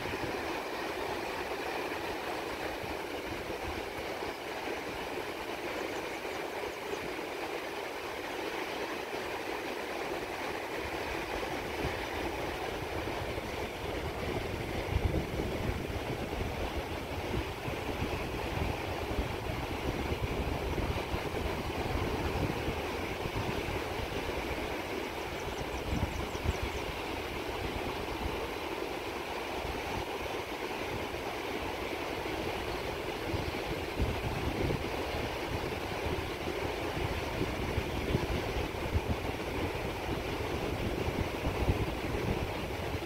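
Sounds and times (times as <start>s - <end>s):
ocean waves breaking on shore: 0.0s - 43.0s.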